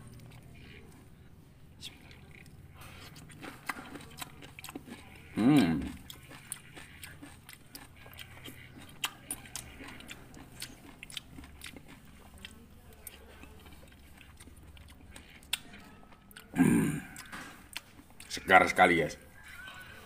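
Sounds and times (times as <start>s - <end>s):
person chewing fruit: 0.0s - 20.0s.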